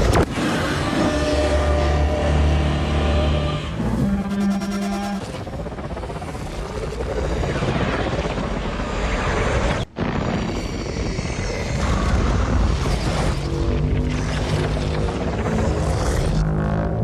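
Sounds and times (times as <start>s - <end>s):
loud dense rumbling rushing noise: 0.0s - 17.0s.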